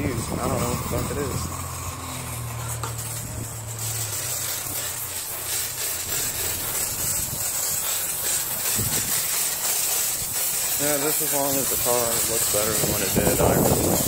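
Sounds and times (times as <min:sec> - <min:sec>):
pressure wand spraying: 0:00.0 - 0:14.0.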